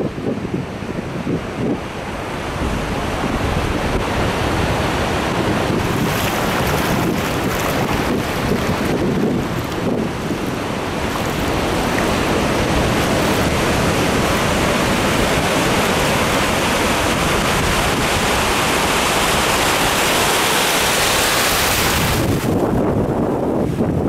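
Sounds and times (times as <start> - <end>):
surf washing over beach: 0.0 - 24.0
wind buffeting microphone: 0.0 - 24.0.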